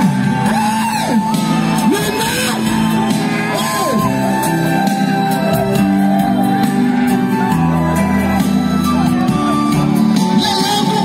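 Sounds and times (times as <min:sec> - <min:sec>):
crowd shouting and whooping: 0:00.0 - 0:11.0
loud live music: 0:00.0 - 0:11.0.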